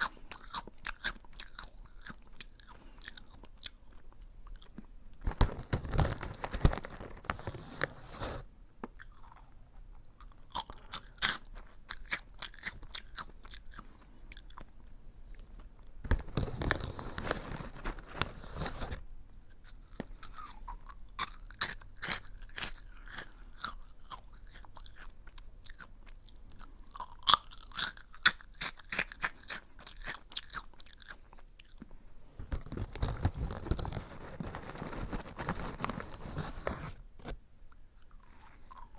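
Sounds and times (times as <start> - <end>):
crunchy snack being chewed: 0.0 - 4.9, 8.9 - 31.9, 32.5 - 35.8, 37.7 - 38.9.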